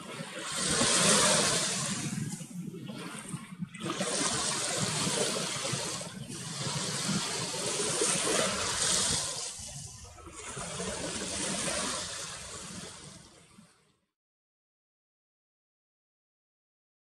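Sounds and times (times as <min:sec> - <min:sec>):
sea water lapping: 0:00.0 - 0:13.7.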